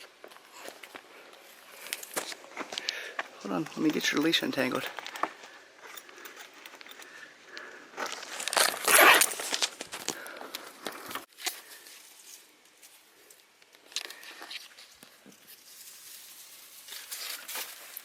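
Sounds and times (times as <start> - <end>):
rustling and crunching: 0.0 - 18.0.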